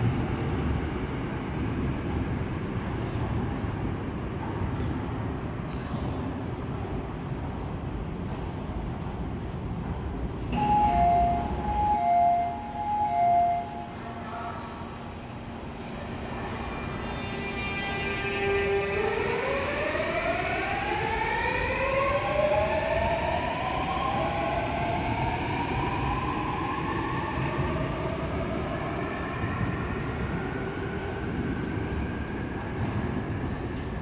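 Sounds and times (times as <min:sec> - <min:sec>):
train rumbling on rails: 0:00.0 - 0:34.0.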